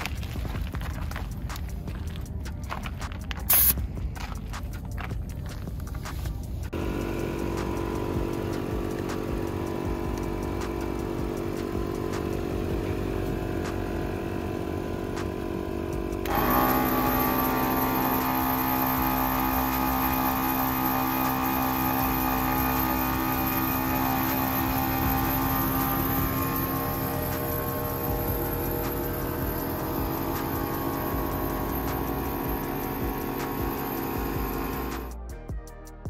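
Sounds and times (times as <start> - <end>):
portable air compressor running: 3.4 - 5.1, 5.9 - 35.3.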